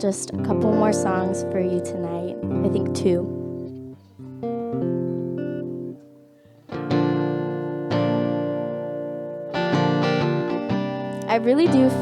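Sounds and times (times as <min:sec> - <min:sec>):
guitar chords strummed: 0:00.0 - 0:12.0.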